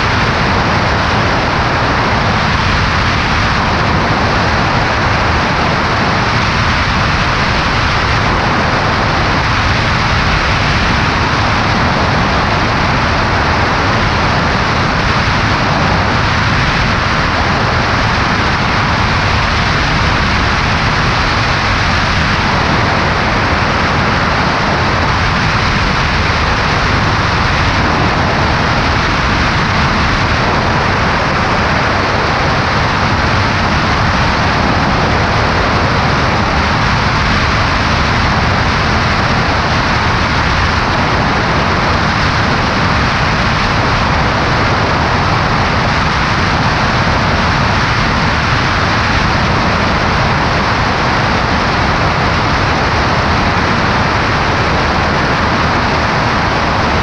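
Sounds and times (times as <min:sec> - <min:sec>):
plane engine and propeller drone: 0:00.0 - 0:57.0
wind rushing: 0:00.0 - 0:57.0.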